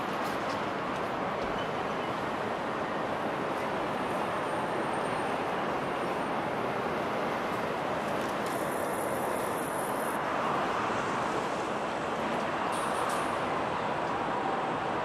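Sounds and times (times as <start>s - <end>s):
city traffic hum: 0.0s - 15.0s.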